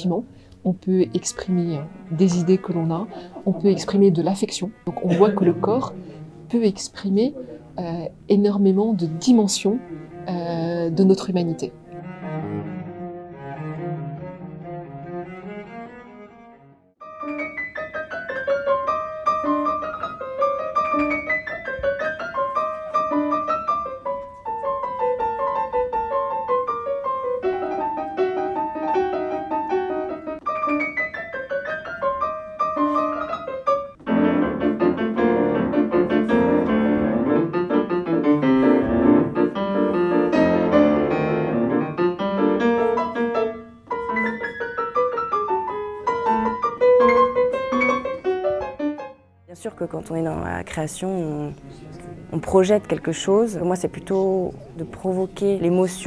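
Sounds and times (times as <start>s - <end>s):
grand piano broken chords: 0.0s - 56.0s.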